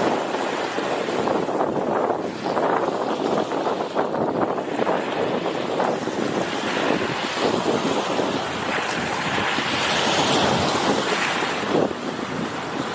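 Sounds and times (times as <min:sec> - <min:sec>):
waves breaking on shore: 0:00.0 - 0:12.9
wind buffeting microphone: 0:00.0 - 0:12.9.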